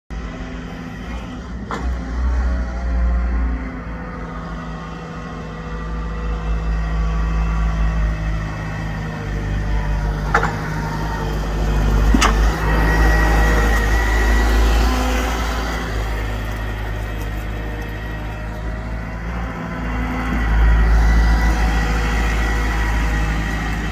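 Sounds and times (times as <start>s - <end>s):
diesel engine running: 0.1s - 23.9s.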